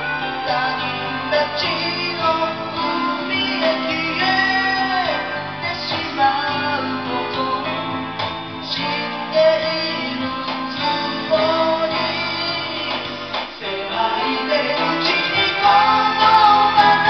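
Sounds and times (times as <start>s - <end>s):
music backing track: 0.0s - 17.0s
person singing into a microphone: 0.0s - 17.0s.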